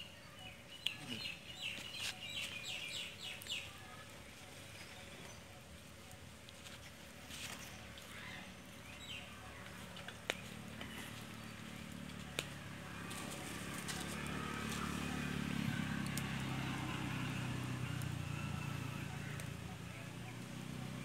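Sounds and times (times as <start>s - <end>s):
low steady hum: 0.0s - 21.0s
faint fire crackle: 0.8s - 21.0s.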